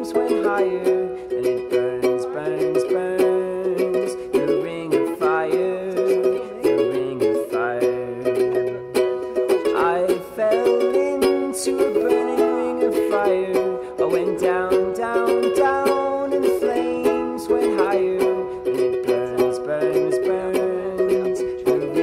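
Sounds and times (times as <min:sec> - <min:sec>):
ukulele music: 0:00.0 - 0:22.0.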